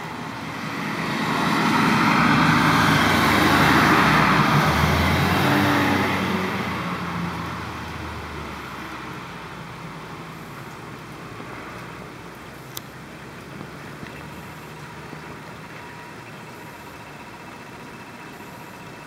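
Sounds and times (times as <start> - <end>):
road vehicle passing by: 0.0 - 19.0.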